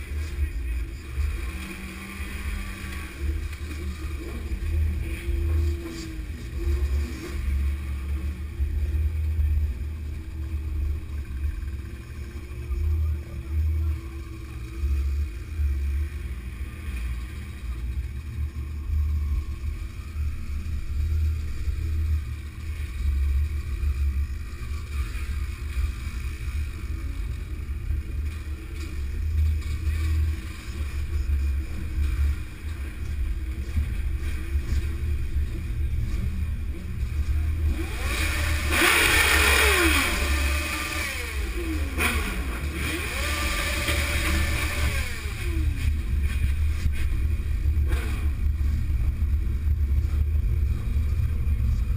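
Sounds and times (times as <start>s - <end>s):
motorcycle engines: 0.0s - 51.9s.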